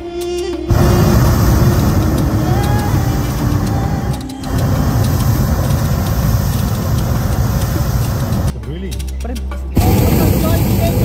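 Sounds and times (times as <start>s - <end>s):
propane burner roaring: 0.7s - 8.5s, 9.8s - 11.0s.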